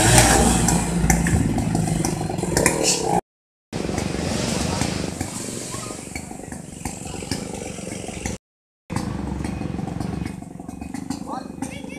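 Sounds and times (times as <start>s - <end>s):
vehicle engine rumble: 0.0s - 11.9s.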